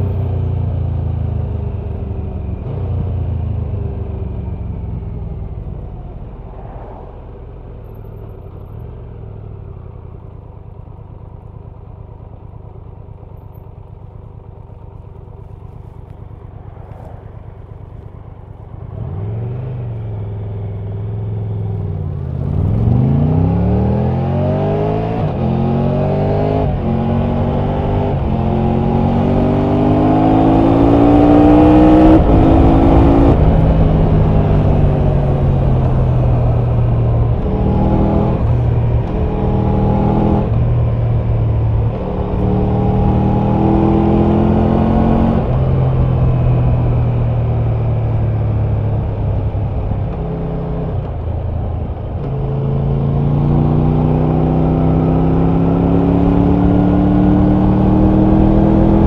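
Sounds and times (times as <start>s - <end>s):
motorcycle engine idling and accelerating: 0.0s - 59.0s.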